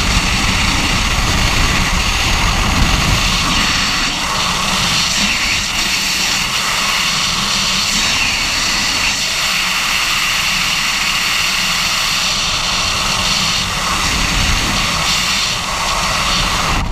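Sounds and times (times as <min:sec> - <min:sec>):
loud wind rush: 0:00.0 - 0:16.9.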